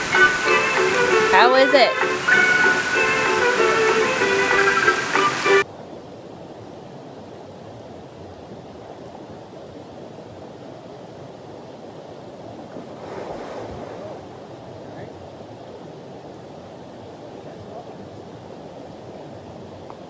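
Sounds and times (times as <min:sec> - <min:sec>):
low rushing outdoor noise: 0:00.0 - 0:20.0.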